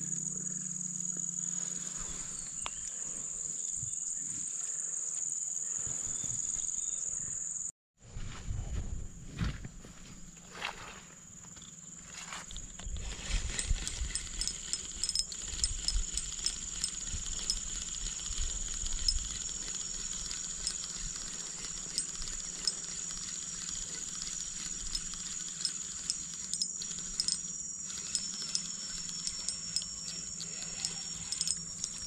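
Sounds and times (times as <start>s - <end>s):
insects droning: 0.0s - 7.7s, 9.1s - 32.0s.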